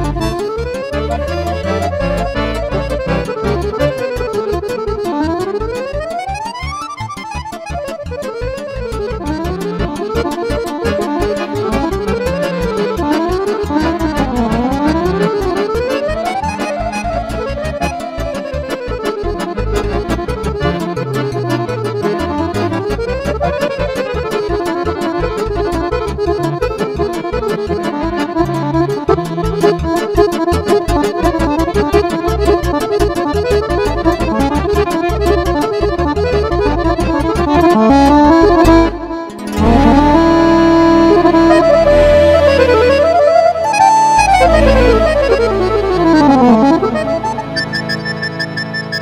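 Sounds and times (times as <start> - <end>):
accordion playing fast tune: 0.0 - 49.0.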